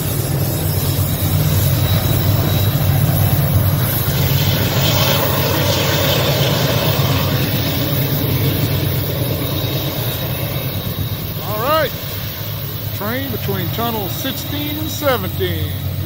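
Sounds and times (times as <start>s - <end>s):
diesel locomotive engine hum: 0.0s - 16.0s.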